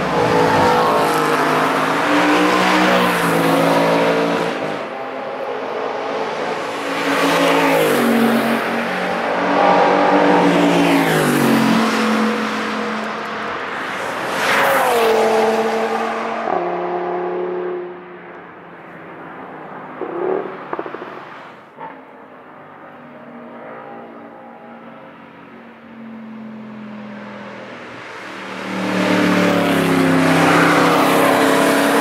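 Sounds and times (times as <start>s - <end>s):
sports cars passing at speed: 0.0s - 32.0s.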